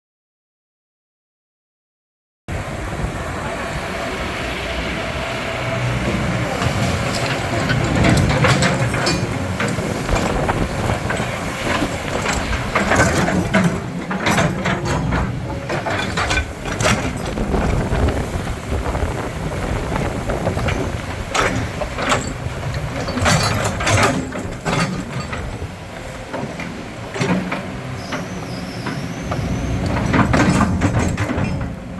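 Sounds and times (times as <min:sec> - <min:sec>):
excavator diesel engine rumbling: 0:02.5 - 0:31.9.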